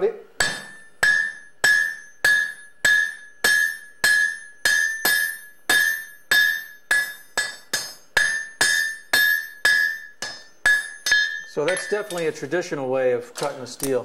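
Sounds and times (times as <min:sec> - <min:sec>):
hammer striking steel on anvil: 0:00.4 - 0:12.5.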